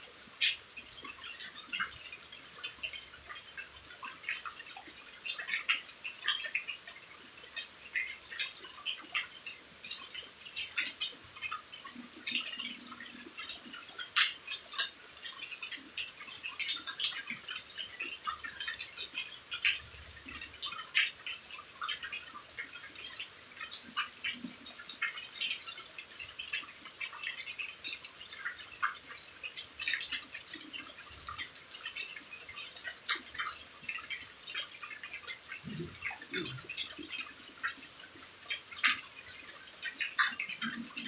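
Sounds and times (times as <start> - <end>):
rain patter and drips: 0.0 - 41.0.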